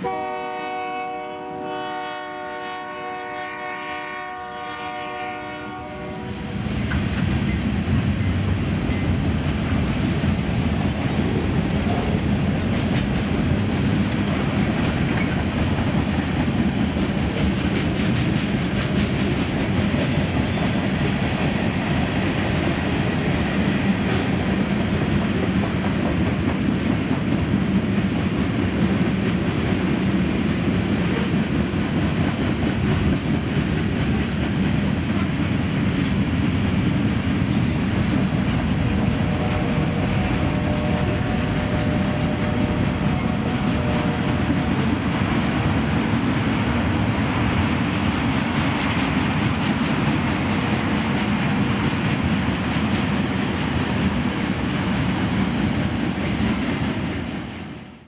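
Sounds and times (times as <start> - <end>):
freight cars rolling on rails: 6.6 - 57.4.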